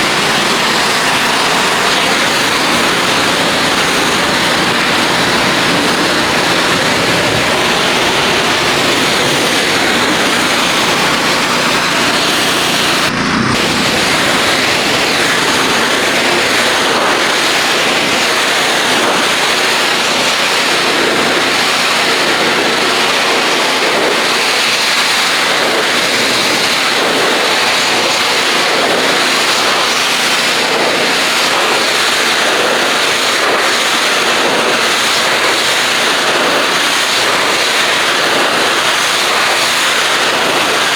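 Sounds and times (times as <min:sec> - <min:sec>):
pressure washer water jet spraying: 0:00.0 - 0:40.9
pump running: 0:00.0 - 0:40.9.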